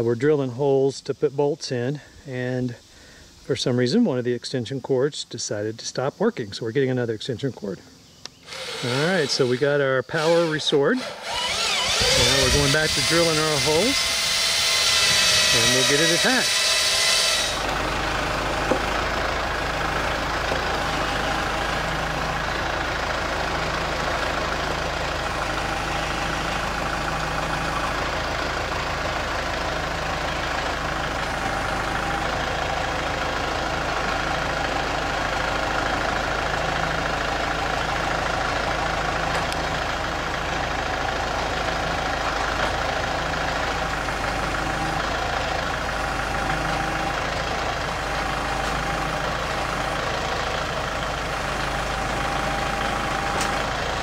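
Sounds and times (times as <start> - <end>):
tractor diesel engine running: 5.6 - 54.0.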